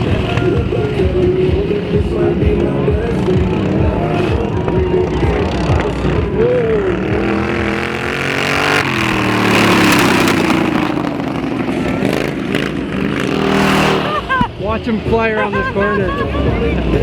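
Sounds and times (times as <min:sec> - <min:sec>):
engine passing by: 0:00.0 - 0:17.0
racing lawnmower engines: 0:00.0 - 0:17.0.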